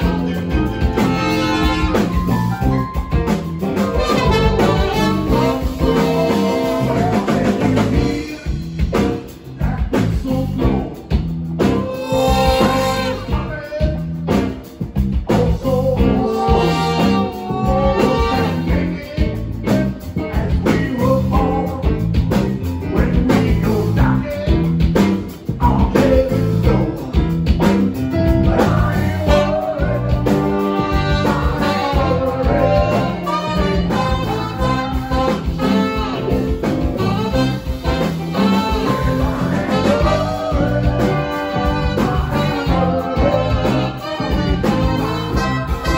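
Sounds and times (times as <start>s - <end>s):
blues band playing: 0.0s - 45.9s.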